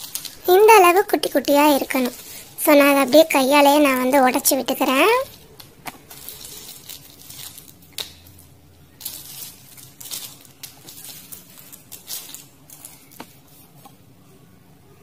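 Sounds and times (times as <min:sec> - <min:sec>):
plastic sheet crinkling: 0:00.0 - 0:13.8.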